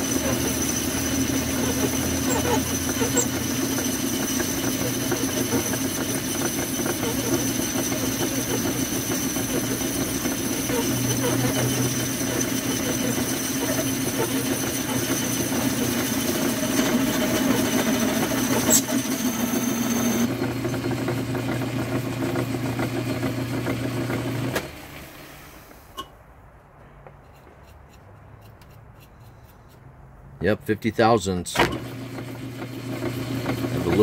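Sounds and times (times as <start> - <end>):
metal lathe motor hum: 0.0 - 25.2, 31.8 - 34.0.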